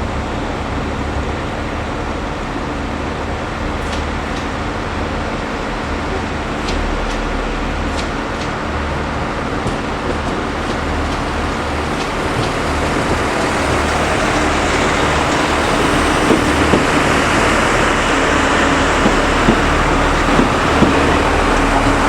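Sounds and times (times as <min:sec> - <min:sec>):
diesel train engine humming: 0:00.0 - 0:22.0
train knocks: 0:00.0 - 0:22.0.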